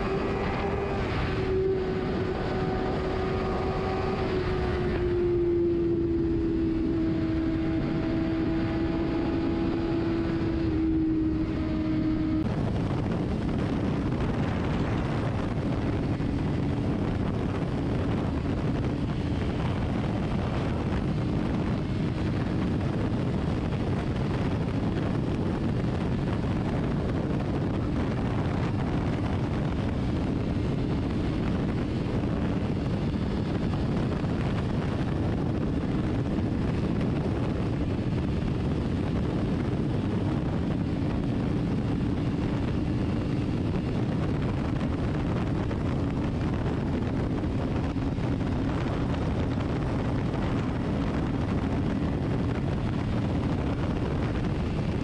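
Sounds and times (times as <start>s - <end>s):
motorcycle engine drone: 0.0s - 55.0s
wind rush on microphone: 0.0s - 55.0s.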